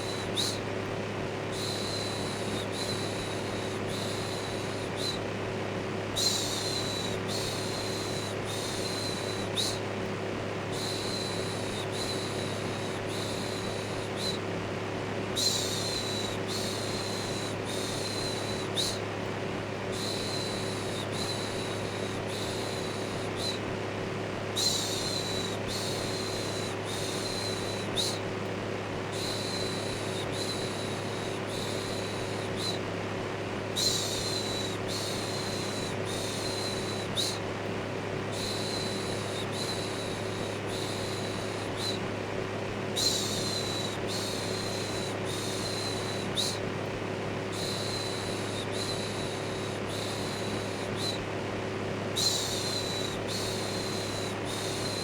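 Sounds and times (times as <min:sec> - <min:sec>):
electric fan humming: 0:00.0 - 0:55.0.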